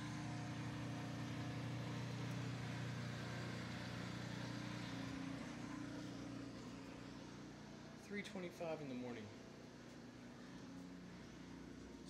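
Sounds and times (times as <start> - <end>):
snowblower engine humming: 0.0 - 12.0.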